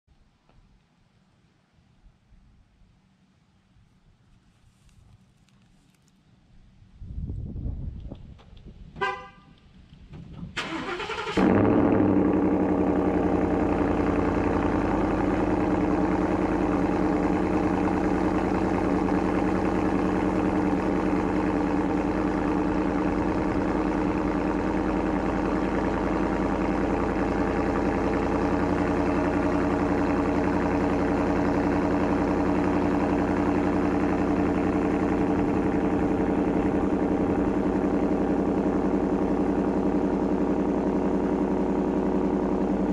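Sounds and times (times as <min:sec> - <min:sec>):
truck engine starting and idling: 0:07.9 - 0:42.9.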